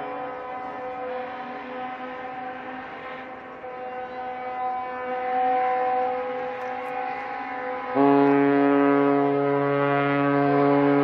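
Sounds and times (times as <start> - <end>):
deep multi-note ship's horn: 0.0 - 11.0
ship's horn blast: 0.0 - 11.0.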